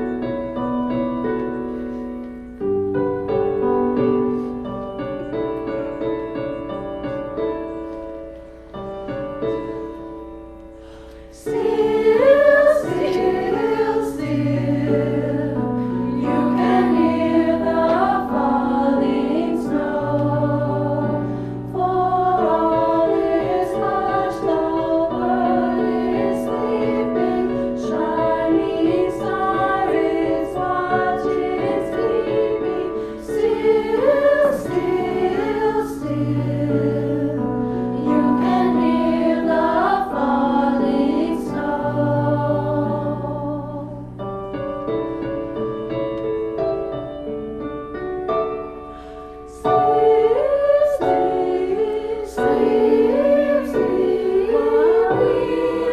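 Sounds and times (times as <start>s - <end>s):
choir singing sustained chords: 7.6s - 46.7s, 48.6s - 55.9s.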